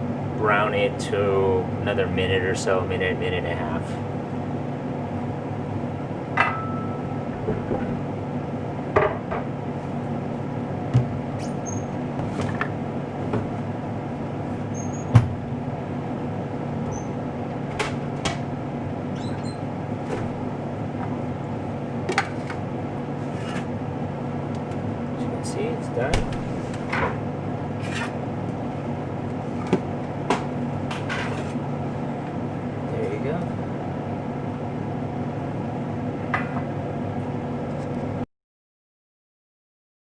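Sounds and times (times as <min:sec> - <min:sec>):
steady low hum: 0:00.0 - 0:38.2.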